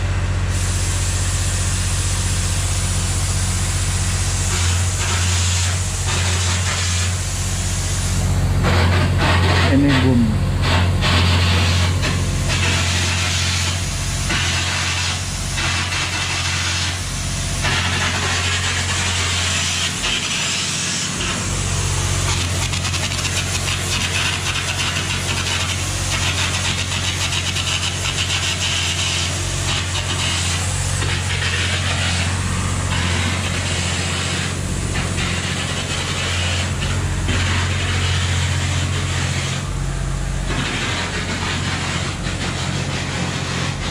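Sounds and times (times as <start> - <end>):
diesel engine deep hum: 0.0 - 14.5, 17.0 - 43.9
hiss of rushing air: 0.4 - 10.0, 10.6 - 43.9.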